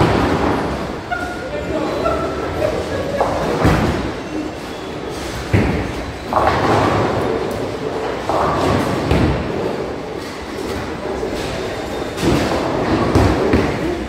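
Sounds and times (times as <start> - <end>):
bowling balls rolling: 0.0 - 14.0.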